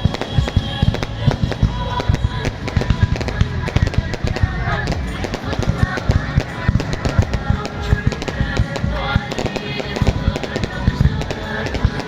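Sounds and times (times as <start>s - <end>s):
fireworks bangs: 0.0s - 12.0s
music playing: 0.0s - 12.0s.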